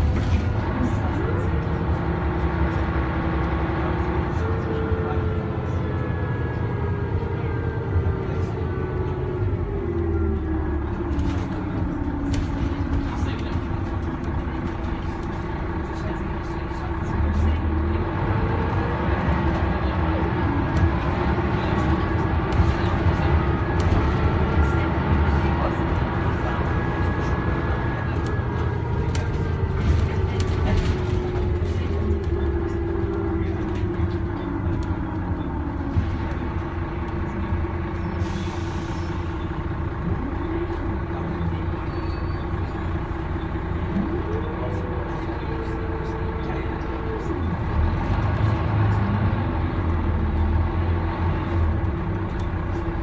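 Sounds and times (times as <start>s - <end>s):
bus engine drone: 0.0s - 53.0s.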